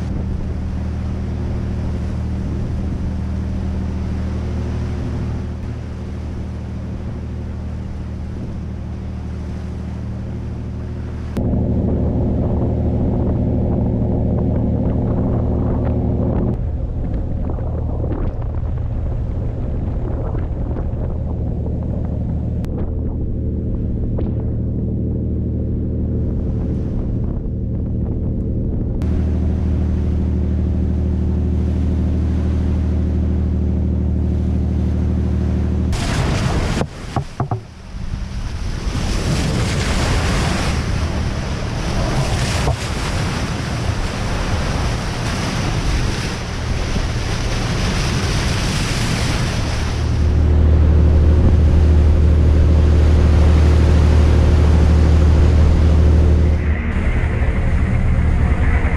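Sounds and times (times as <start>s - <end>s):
diesel engines droning: 0.0s - 58.9s
water rushing against hull: 0.0s - 58.9s.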